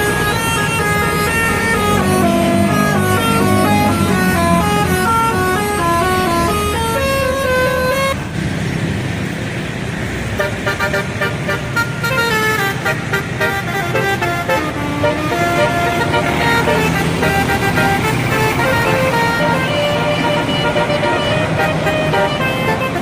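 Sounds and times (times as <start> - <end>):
bus musical horn melody: 0.0 - 8.2, 10.4 - 23.0
engine and traffic noise: 0.0 - 23.0.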